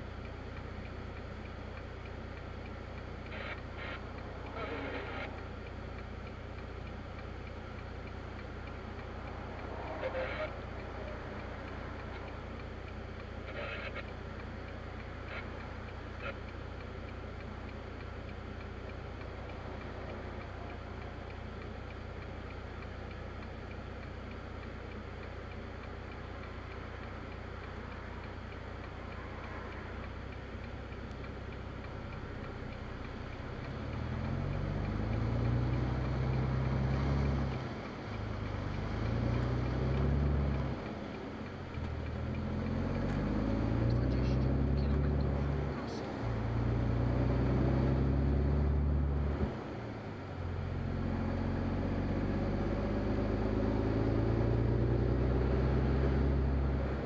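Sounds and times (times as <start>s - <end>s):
faint clicks: 0.0s - 48.1s
vehicle engine running: 0.0s - 57.0s.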